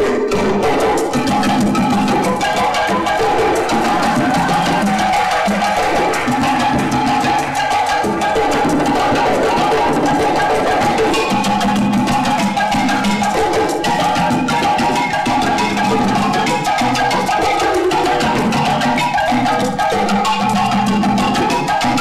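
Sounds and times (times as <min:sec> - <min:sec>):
fast xylophone music: 0:00.0 - 0:22.0.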